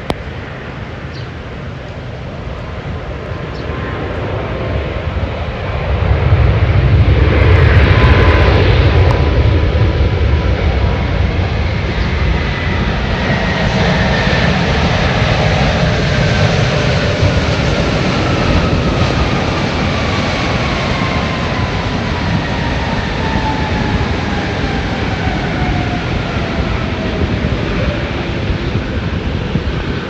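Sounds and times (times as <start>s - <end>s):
jet engines passing: 0.0s - 30.0s.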